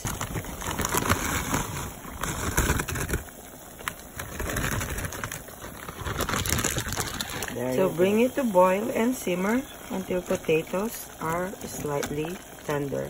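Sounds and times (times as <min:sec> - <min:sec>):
water boiling and bubbling: 0:00.0 - 0:13.0.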